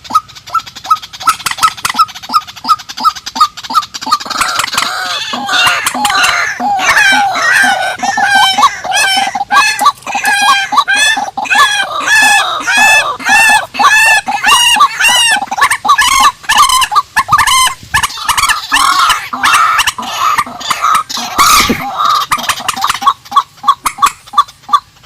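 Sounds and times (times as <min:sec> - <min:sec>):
rails calling: 0:00.0 - 0:25.0.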